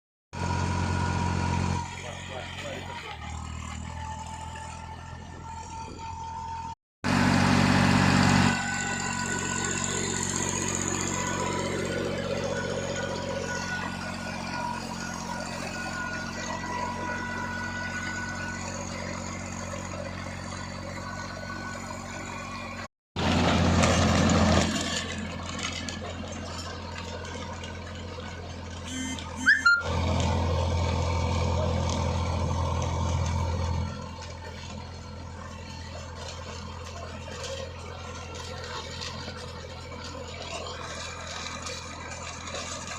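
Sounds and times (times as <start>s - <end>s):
tractor diesel engine running: 0.3s - 42.9s.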